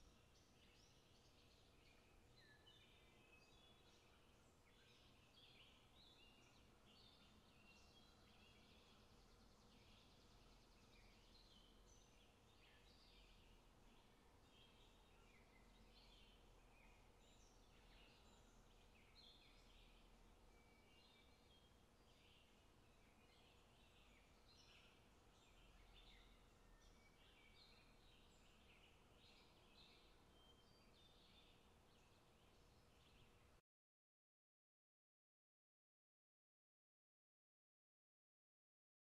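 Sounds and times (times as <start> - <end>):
faint birdsong chirps: 0.0 - 33.6.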